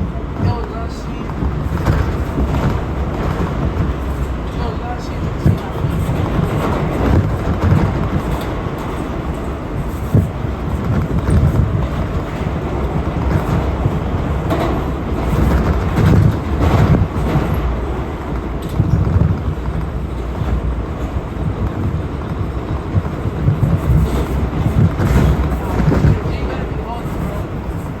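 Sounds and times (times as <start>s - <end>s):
subway train wheels rumbling: 0.0s - 28.0s
wheels clacking on rails: 0.0s - 28.0s.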